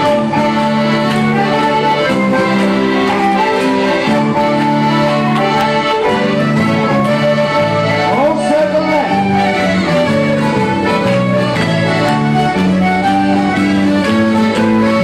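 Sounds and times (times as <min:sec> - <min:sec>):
band playing folk dance tune: 0:00.0 - 0:15.0.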